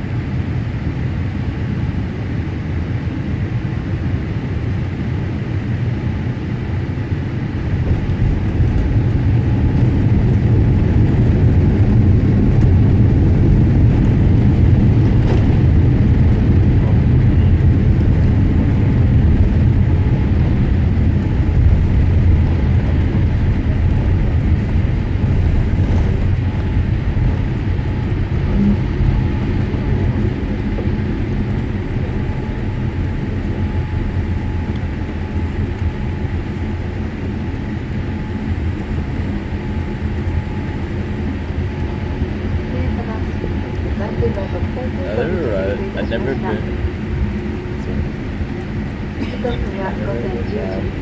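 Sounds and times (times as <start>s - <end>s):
jet cabin rumble on runway: 0.0s - 51.0s.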